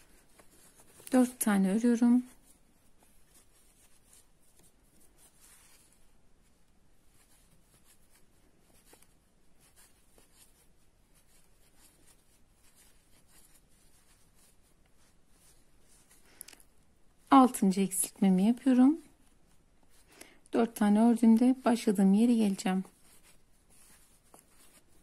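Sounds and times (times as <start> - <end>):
crochet hook scratching yarn: 0.0 - 16.2, 20.6 - 25.0.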